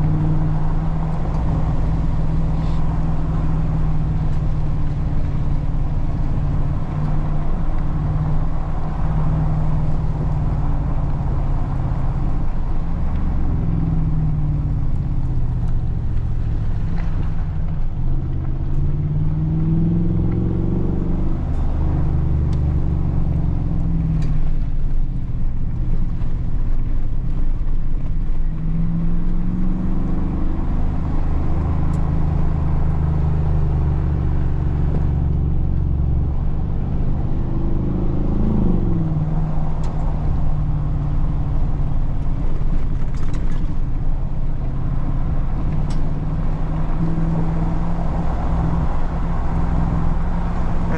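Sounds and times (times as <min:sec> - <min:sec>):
truck engine accelerating: 0:00.0 - 0:50.9.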